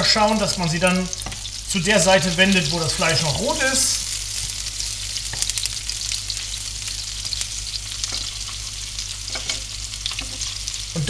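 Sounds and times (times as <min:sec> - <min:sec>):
meatballs sizzling in oil: 0:00.0 - 0:11.0.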